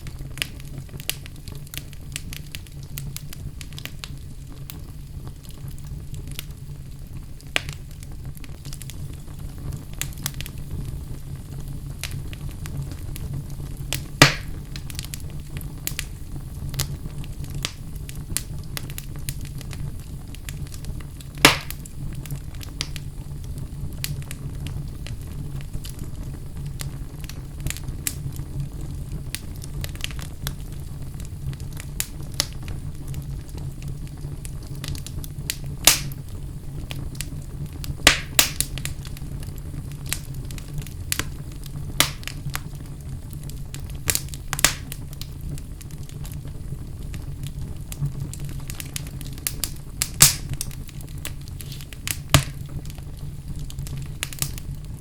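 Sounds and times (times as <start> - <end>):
fire crackling: 0.0 - 55.0
fire rumbling: 0.0 - 55.0
loud fire pops: 0.0 - 55.0.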